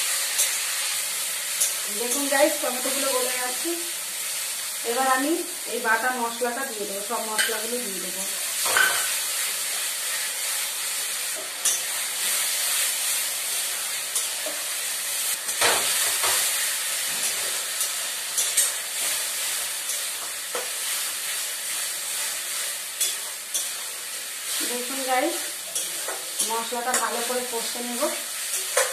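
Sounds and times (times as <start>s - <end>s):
spice paste sizzling in oil: 0.0s - 28.9s.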